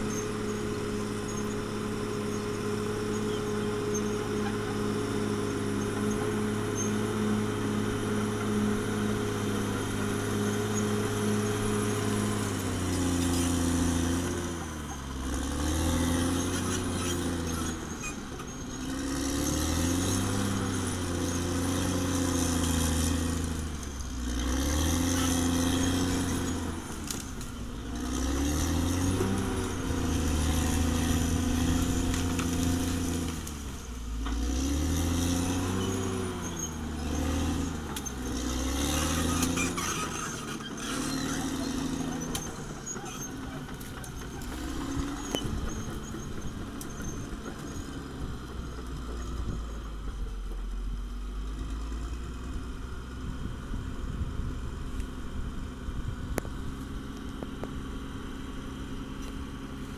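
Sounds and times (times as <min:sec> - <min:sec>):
bulldozer engine under load: 0:00.0 - 0:59.9.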